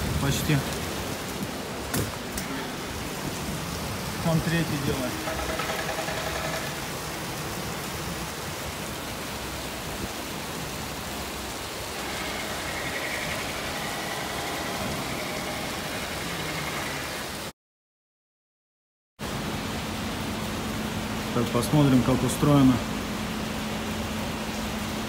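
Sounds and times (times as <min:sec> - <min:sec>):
rain and wind hissing: 0:00.0 - 0:17.5, 0:19.2 - 0:25.0.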